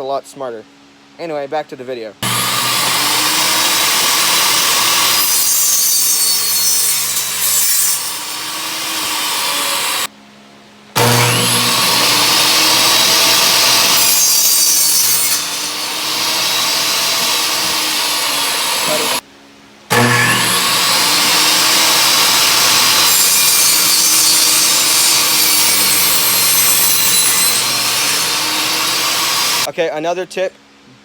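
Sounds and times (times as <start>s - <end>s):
table saw cutting wood: 2.2s - 10.1s, 11.0s - 19.2s, 19.9s - 29.7s.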